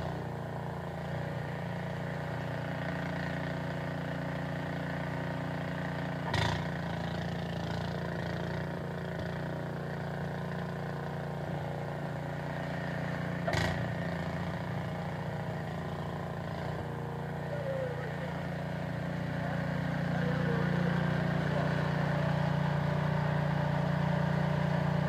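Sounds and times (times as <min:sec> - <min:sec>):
snowblower engine running: 0:00.0 - 0:25.0.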